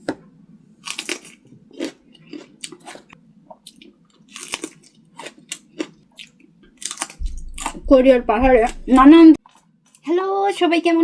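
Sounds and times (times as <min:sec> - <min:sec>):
person chewing crunchy food: 0:00.8 - 0:10.0.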